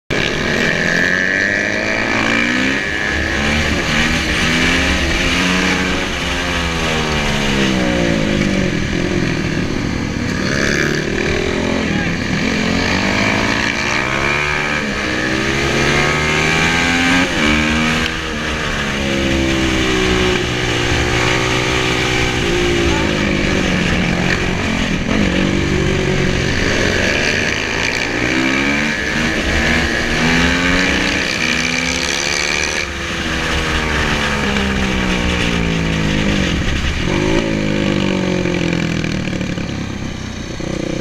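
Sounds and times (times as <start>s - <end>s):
motorcycle engines revving: 0.1s - 41.0s.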